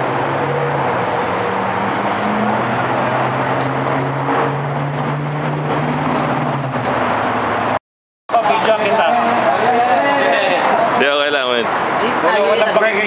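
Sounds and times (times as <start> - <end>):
road and wind noise: 0.0 - 13.0
vehicle engine hum: 0.0 - 13.0.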